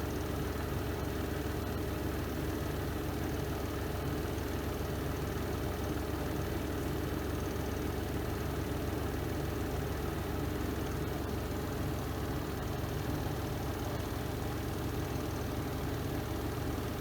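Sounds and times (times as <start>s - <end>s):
washing machine spin motor hum: 0.0s - 17.0s.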